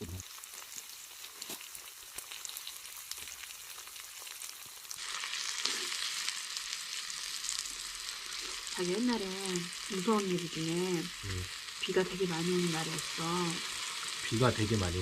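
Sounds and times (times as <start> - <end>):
food sizzling on a griddle: 0.0 - 15.0.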